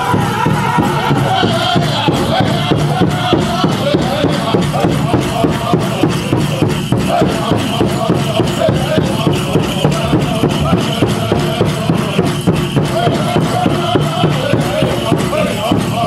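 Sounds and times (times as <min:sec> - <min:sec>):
big drum fast beat: 0:00.0 - 0:16.0
men singing: 0:00.0 - 0:16.0.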